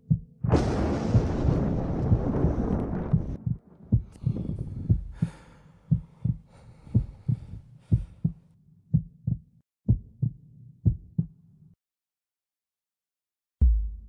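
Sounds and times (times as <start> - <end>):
heartbeat thumps: 0.0 - 11.3, 13.6 - 14.0.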